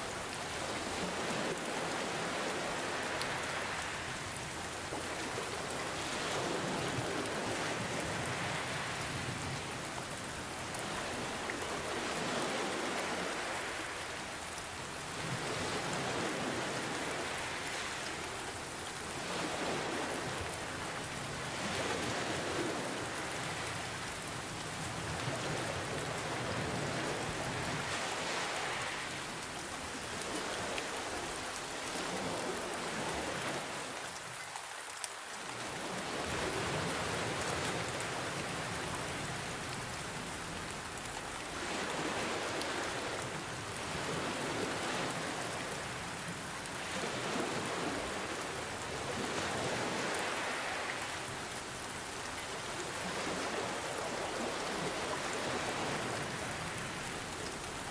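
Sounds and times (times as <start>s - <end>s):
gentle ocean waves: 0.0s - 57.9s
steady rain: 0.0s - 57.9s.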